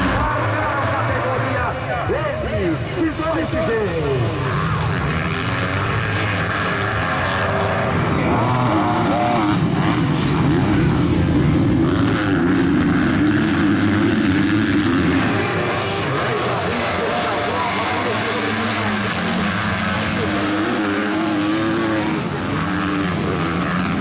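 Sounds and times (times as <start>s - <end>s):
motocross motorcycle engines revving: 0.0s - 24.0s.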